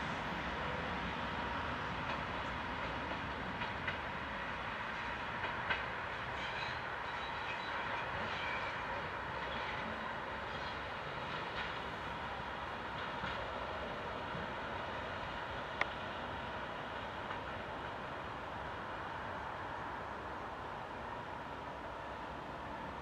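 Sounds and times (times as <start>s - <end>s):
train rolling noise: 0.0s - 23.0s.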